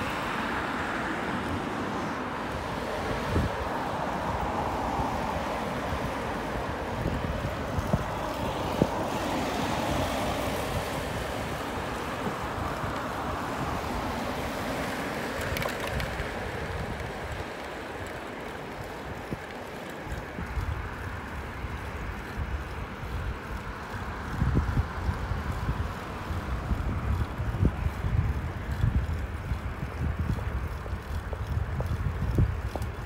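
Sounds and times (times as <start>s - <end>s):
cars passing on street: 0.0s - 33.0s
wind buffeting microphone: 0.0s - 33.0s.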